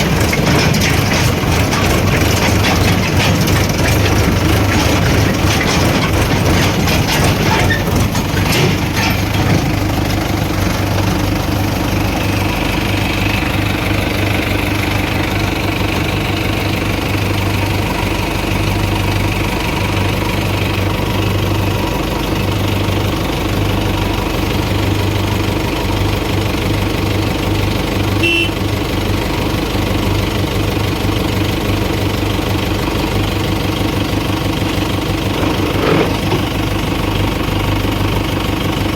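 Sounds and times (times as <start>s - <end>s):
diesel engine throbbing: 0.0s - 38.9s.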